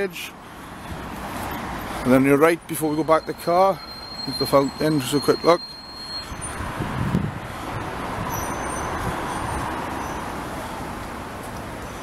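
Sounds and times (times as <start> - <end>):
passing vehicle engine and tyres: 0.0 - 12.0.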